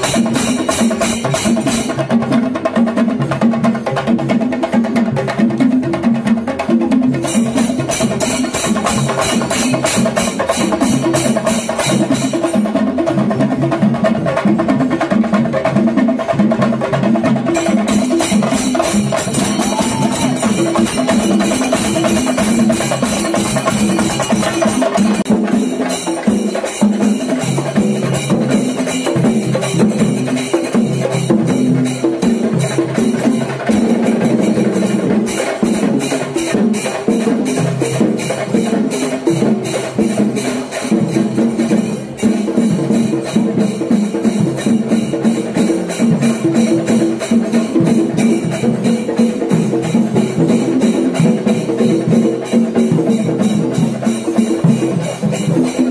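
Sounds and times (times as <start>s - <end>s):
drums beaten with sticks: 0.0s - 55.9s.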